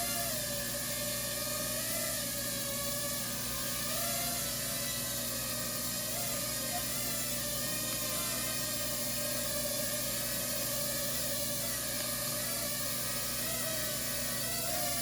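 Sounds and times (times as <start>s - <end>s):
drone motor whine: 0.0s - 15.0s
drone propellers whirring: 0.0s - 15.0s.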